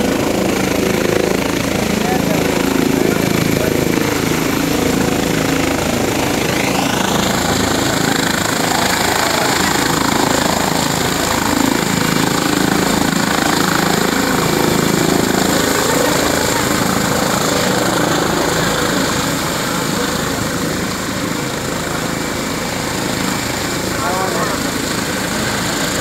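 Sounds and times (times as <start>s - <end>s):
helicopter rotor and engine: 0.0s - 26.0s
high turbine whine: 0.0s - 26.0s.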